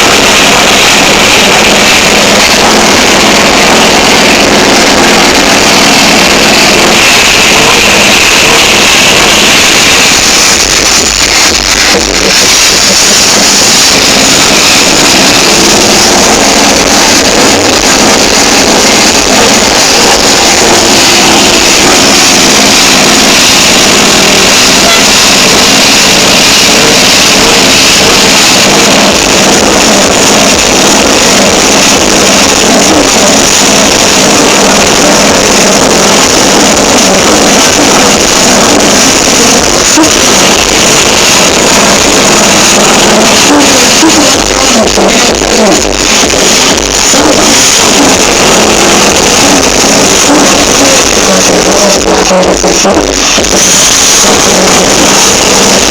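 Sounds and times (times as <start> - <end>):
diesel engine running loud: 0.0 - 55.9.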